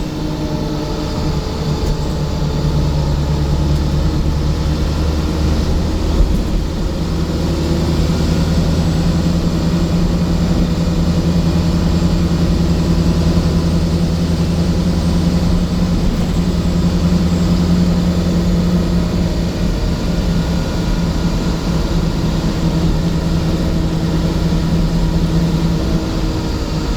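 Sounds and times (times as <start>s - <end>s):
diesel engine droning: 0.0s - 26.9s.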